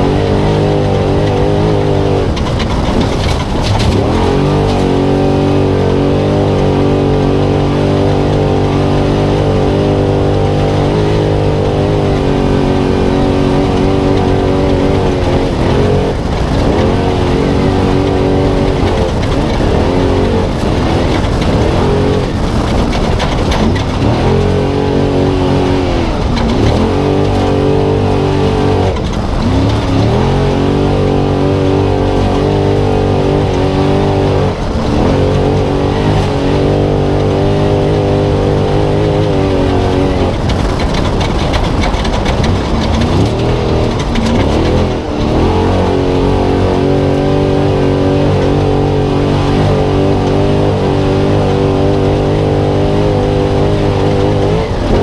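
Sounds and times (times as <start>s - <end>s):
truck engine at high revs: 0.0s - 55.0s.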